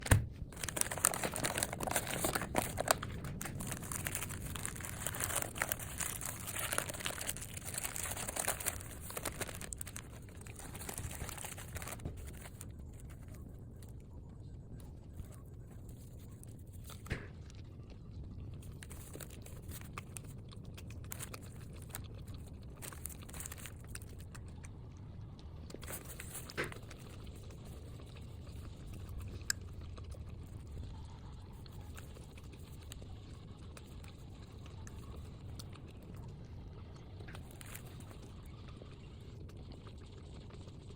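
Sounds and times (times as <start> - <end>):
steady low hum: 0.0 - 40.9
person chewing food: 0.3 - 14.1, 14.9 - 40.9.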